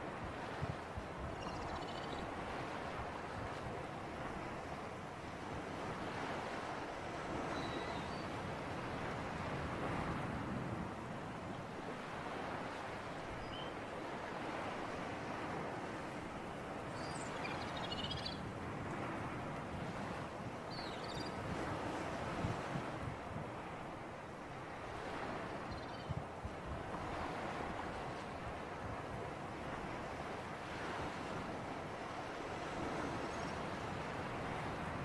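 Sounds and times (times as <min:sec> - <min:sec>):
sea surf: 0:00.0 - 0:35.0.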